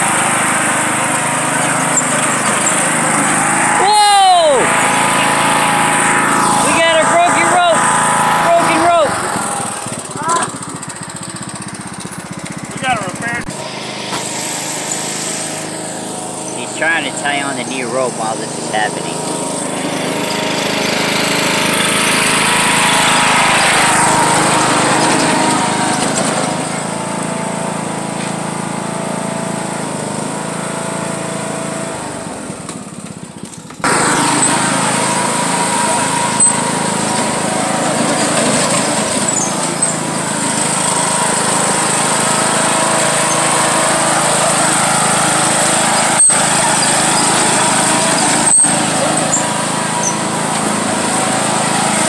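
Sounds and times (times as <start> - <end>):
riding mower engine running: 0.0 - 52.0.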